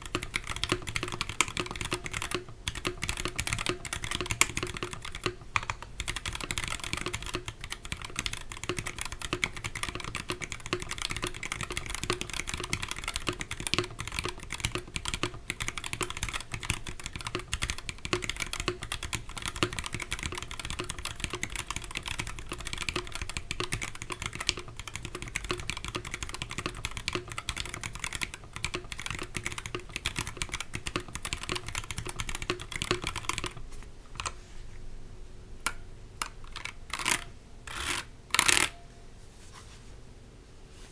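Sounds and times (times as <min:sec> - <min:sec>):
fast typing on mechanical keyboard: 0:00.0 - 0:33.6, 0:36.2 - 0:38.7.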